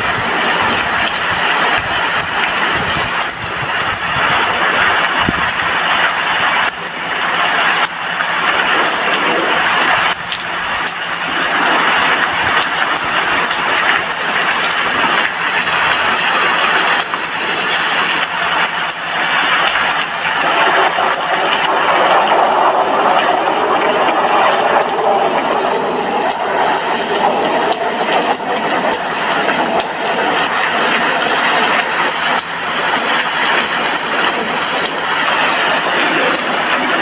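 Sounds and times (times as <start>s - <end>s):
rain on a window: 0.0s - 37.0s.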